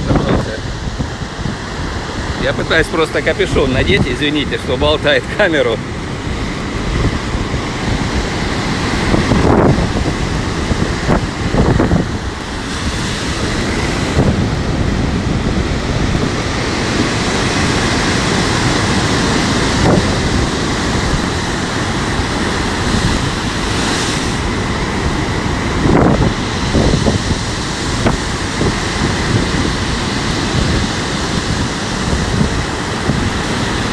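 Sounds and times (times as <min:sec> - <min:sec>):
gusty wind on microphone: 0:00.0 - 0:33.9
surf breaking on shore: 0:00.0 - 0:33.9.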